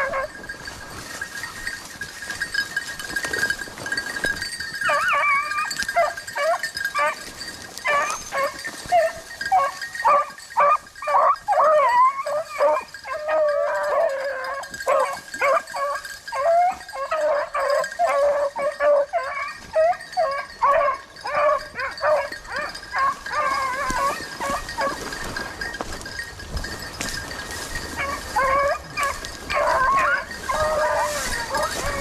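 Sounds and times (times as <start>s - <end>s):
hounds baying: 0.0s - 32.0s.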